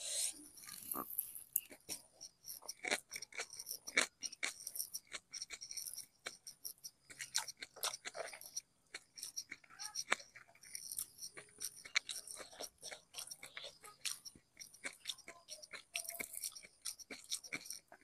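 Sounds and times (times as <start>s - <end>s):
close chewing and mouth smacks: 0.6s - 18.0s.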